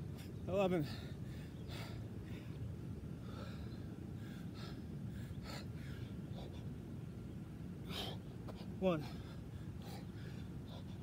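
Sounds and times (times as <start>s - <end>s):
man breathing hard and gasping: 0.8s - 6.8s, 7.8s - 11.0s.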